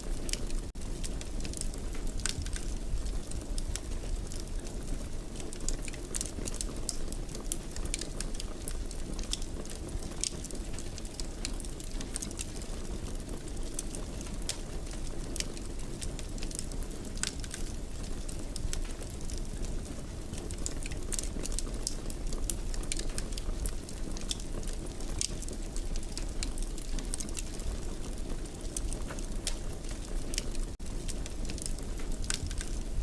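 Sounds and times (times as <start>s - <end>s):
low fire rumble: 0.0s - 33.0s
wood fire crackling and popping: 0.0s - 33.0s.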